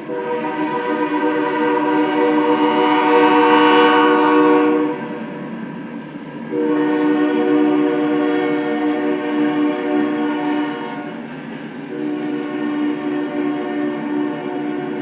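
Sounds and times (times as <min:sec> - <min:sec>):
locomotive air horn blasts: 0:00.0 - 0:05.2, 0:06.5 - 0:11.3, 0:11.9 - 0:15.0
train rumble: 0:00.0 - 0:15.0.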